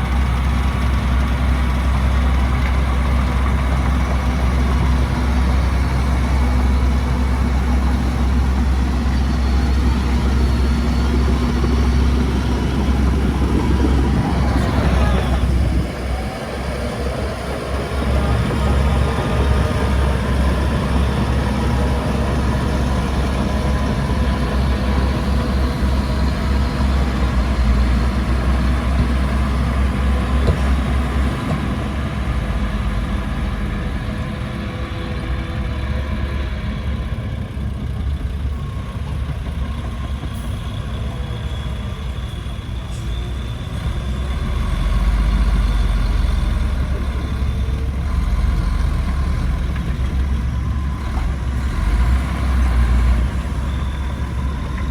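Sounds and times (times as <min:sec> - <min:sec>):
heavy diesel machinery rumbling: 0:00.0 - 0:54.9.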